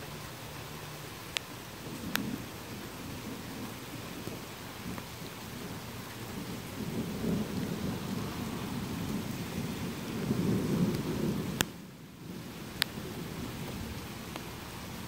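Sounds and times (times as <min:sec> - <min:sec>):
rain hissing: 0:00.0 - 0:15.0
thunder rumbling: 0:01.7 - 0:15.0.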